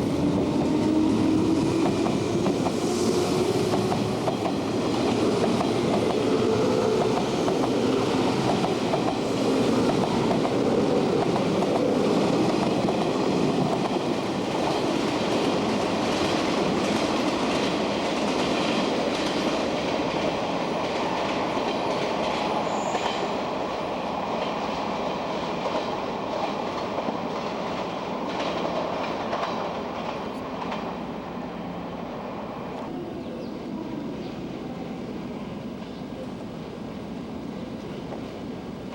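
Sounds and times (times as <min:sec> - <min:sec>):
electric train running on rails: 0:00.0 - 0:38.9.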